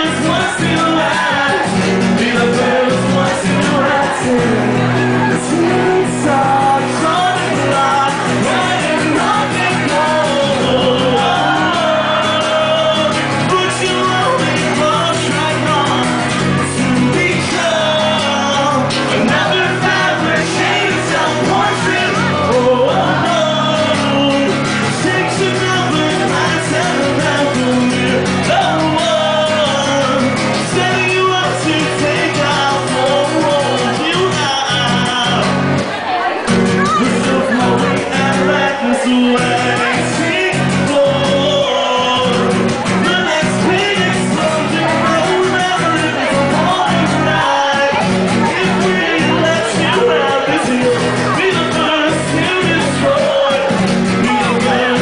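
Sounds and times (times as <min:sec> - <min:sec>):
live rock band playing: 0:00.0 - 0:55.0
person singing into microphone: 0:00.0 - 0:55.0.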